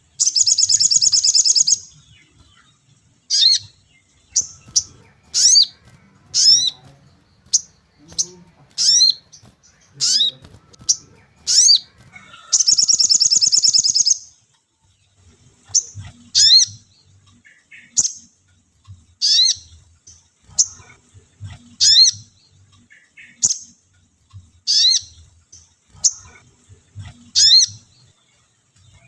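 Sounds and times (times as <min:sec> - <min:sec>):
rapid bird trill: 0:00.0 - 0:14.5, 0:15.3 - 0:29.0
songbird chirps: 0:00.0 - 0:29.0.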